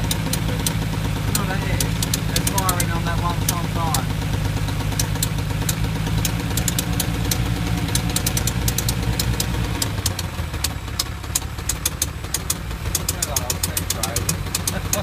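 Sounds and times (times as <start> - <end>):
car engine idling: 0.0 - 15.0
sharp irregular engine ticks: 0.0 - 15.0.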